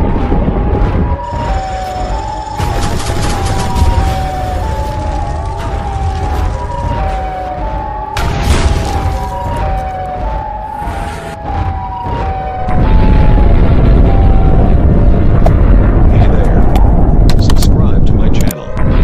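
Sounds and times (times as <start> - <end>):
two-tone siren: 0.0 - 15.4
low rumble: 0.0 - 19.0.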